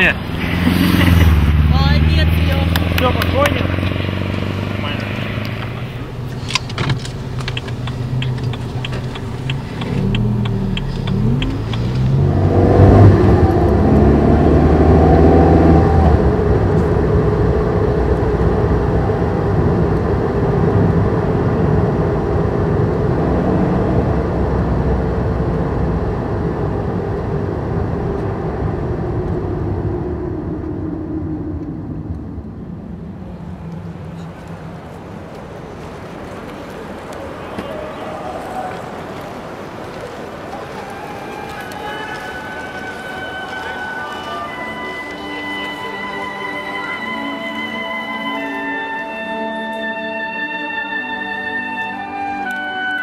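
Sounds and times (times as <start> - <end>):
car engine revving: 0.0 - 53.0
road noise: 0.0 - 53.0.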